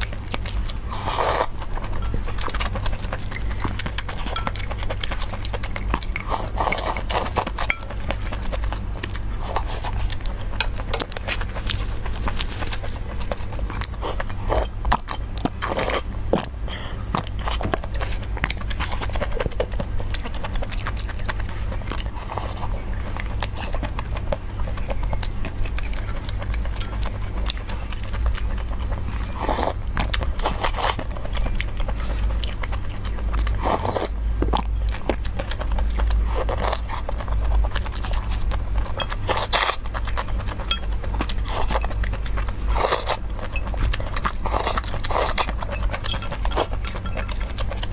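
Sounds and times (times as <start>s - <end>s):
chewing: 0.0s - 47.9s
low steady hum: 0.0s - 47.9s.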